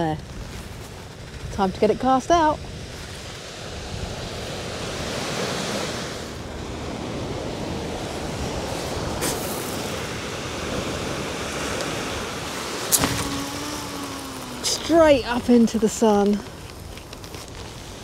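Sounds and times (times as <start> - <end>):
waves washing on shingle: 0.0 - 18.0
wind on microphone: 0.0 - 18.0.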